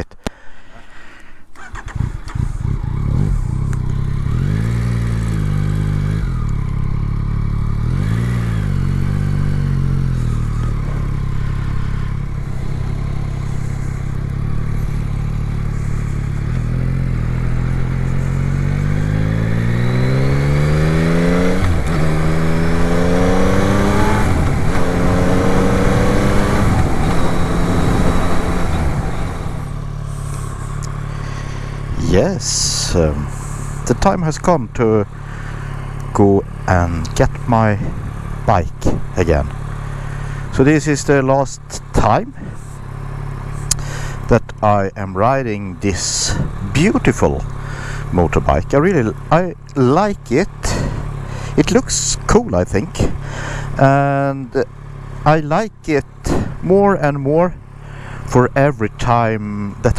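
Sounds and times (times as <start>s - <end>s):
motorcycle engine revving: 1.5s - 59.9s.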